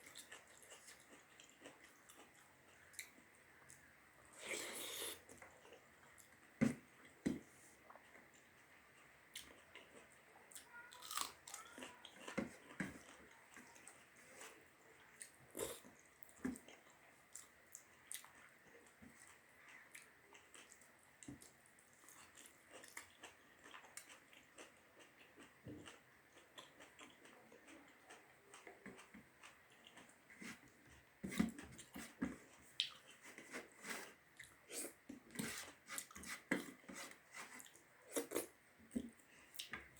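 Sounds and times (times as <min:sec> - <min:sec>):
person chewing with wet smacks: 0:00.0 - 0:39.9.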